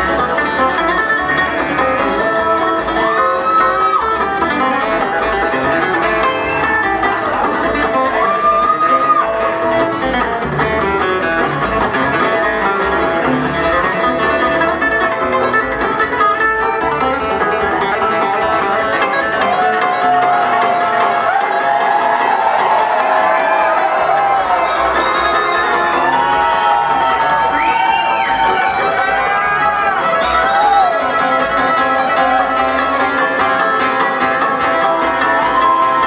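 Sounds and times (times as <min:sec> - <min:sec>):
bluegrass band playing: 0:00.0 - 0:36.0.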